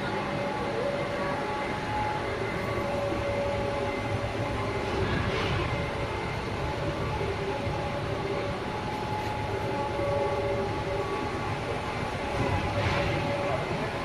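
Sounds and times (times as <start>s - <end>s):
rumbling machine noise: 0.0s - 14.0s.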